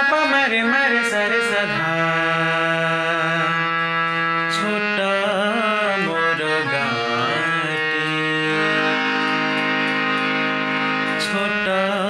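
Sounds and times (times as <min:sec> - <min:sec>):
harmonium melody: 0:00.0 - 0:12.0.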